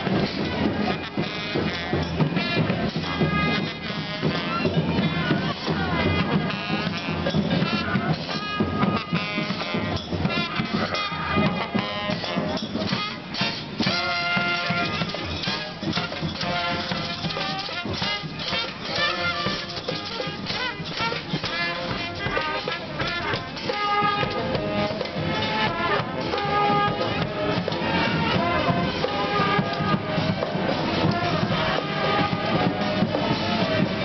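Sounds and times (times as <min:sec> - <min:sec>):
drum beat: 0:00.0 - 0:34.0
horns holding notes: 0:00.0 - 0:34.0.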